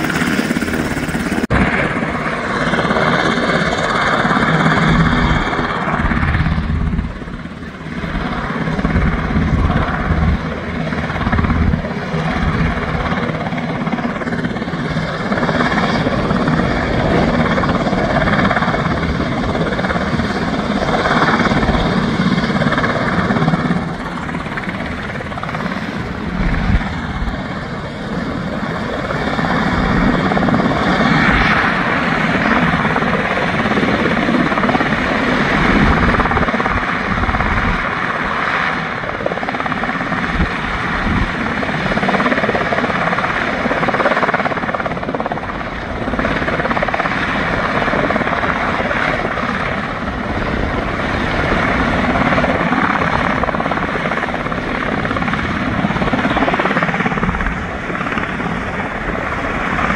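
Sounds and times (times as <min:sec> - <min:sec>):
helicopter rotors and engines: 0:00.0 - 0:59.9
high turbine whine: 0:00.0 - 0:59.9.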